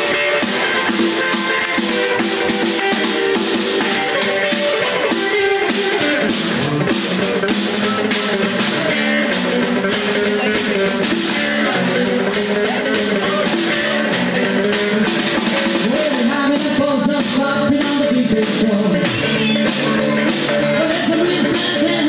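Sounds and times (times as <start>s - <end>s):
electric guitar playing: 0.0s - 22.0s.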